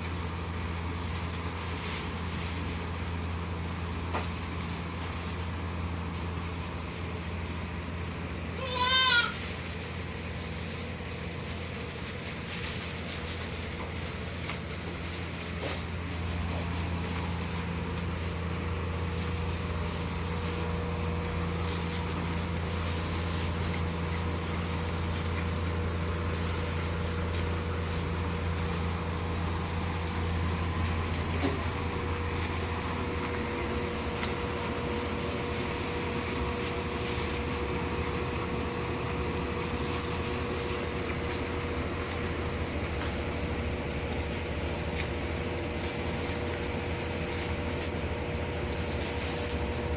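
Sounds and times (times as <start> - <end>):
low mechanical drone: 0.0 - 49.9.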